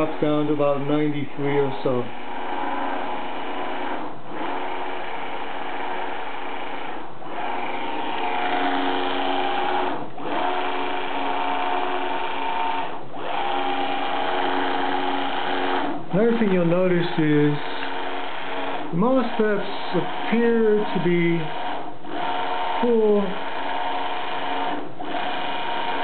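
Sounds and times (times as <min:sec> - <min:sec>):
servo motor whine: 0:00.0 - 0:26.0.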